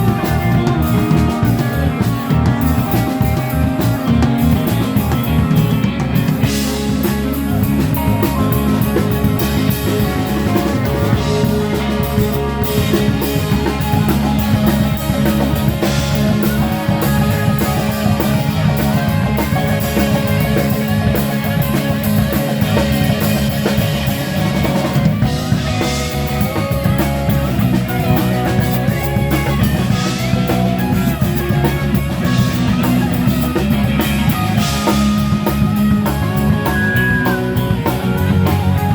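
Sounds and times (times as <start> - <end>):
bass guitar: 0.0 - 38.9
drum kit beat: 0.0 - 38.9
electric guitar lines: 0.0 - 38.9.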